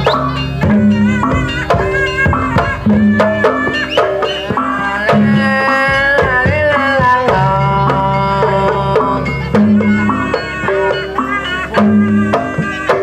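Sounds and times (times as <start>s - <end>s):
hand drums beating: 0.0s - 13.0s
wavering melody line: 0.0s - 13.0s.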